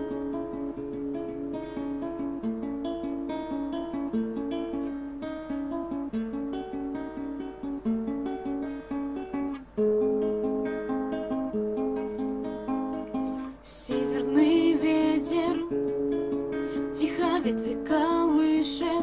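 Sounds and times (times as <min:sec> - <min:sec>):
acoustic guitar picking chords: 0:00.0 - 0:19.0.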